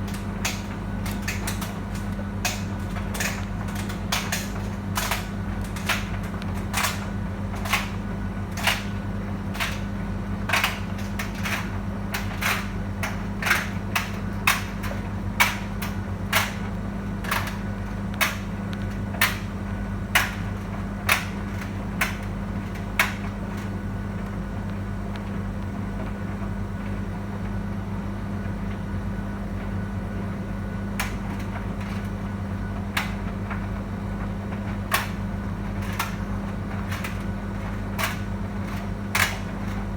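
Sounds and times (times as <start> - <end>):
tumble dryer humming: 0.0 - 39.9.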